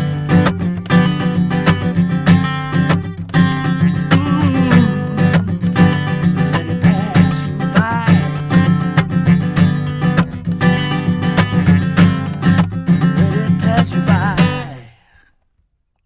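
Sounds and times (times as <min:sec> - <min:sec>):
acoustic guitar strummed and picked: 0:00.0 - 0:15.3.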